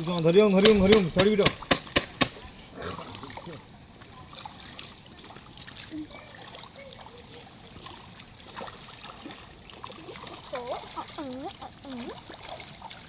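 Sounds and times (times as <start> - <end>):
trickle of flowing water: 0.0 - 13.0.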